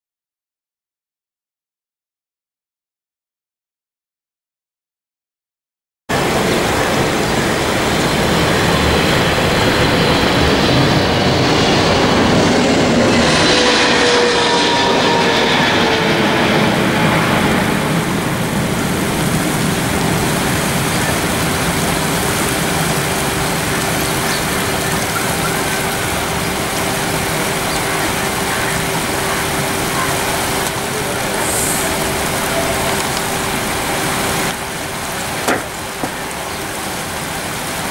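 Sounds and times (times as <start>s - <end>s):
jet engines passing low: 6.1s - 37.9s.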